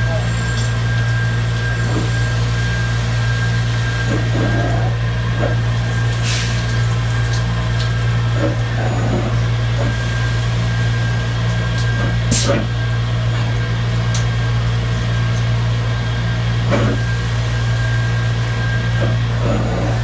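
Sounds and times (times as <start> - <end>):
grinding machine hum and whine: 0.0 - 20.0.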